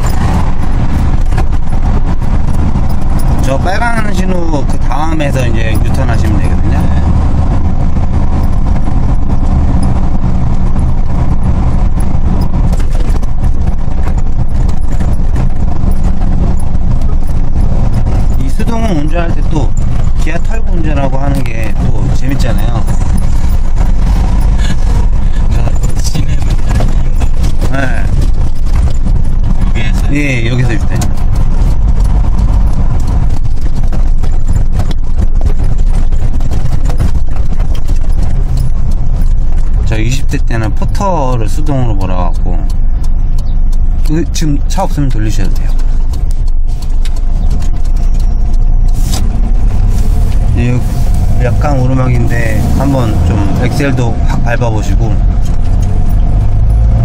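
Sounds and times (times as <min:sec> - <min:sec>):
diesel engine and road rumble: 0:00.0 - 0:57.0
irregular rattle: 0:00.0 - 0:57.0.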